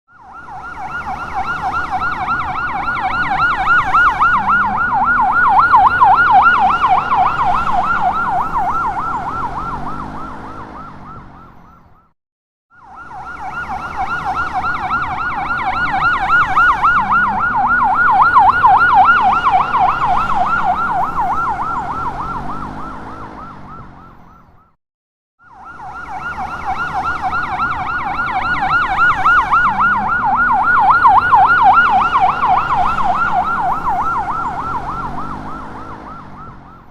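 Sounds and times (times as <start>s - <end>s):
ambulance siren warbling: 0.1s - 12.1s, 12.7s - 24.8s, 25.4s - 36.9s.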